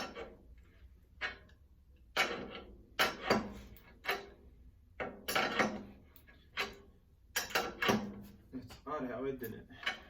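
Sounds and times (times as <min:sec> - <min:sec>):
metal clanks and knocks: 0:00.0 - 0:10.0.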